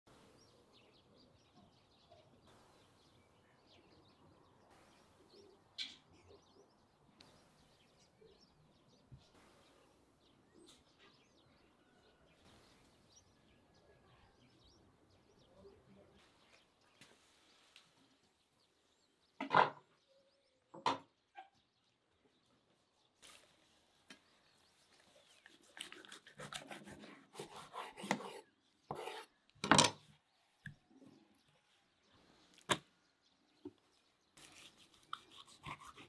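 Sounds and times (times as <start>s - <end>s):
small birds chirping: 0.1s - 36.0s.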